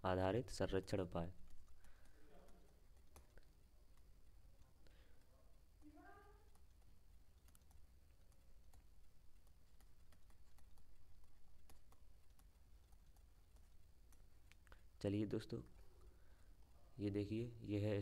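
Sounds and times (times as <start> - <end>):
faint clicks and taps on screen: 0.9 - 16.8.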